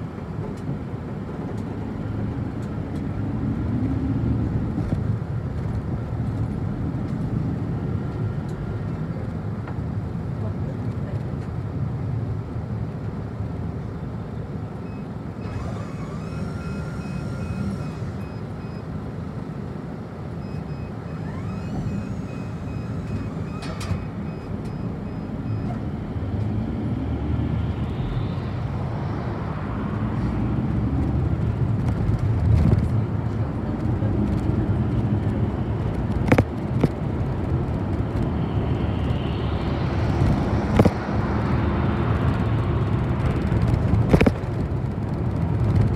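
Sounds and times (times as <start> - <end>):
bus engine running: 0.0 - 45.9
road noise: 0.0 - 45.9.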